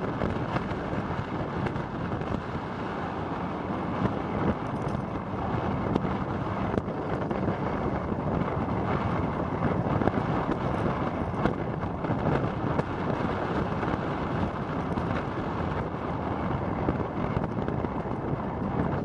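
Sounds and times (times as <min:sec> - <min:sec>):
road noise: 0:00.0 - 0:19.0
wind rushing over microphone: 0:00.0 - 0:19.0.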